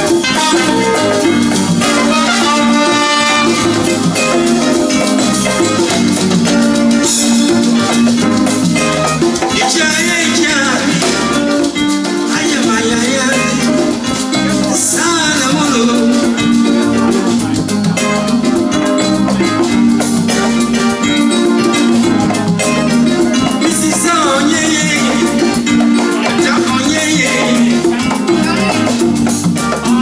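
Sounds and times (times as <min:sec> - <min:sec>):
live band playing groove: 0:00.0 - 0:30.0.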